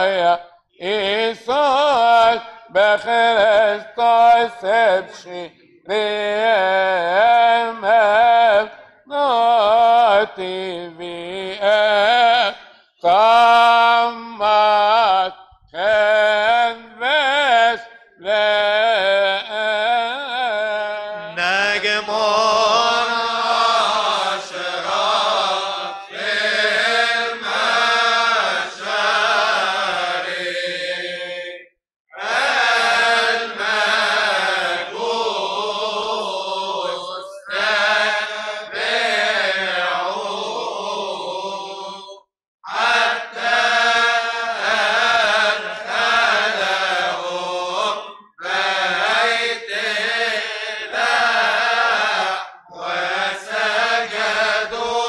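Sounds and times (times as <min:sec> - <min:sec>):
men chanting a hymn: 0:00.0 - 0:55.0.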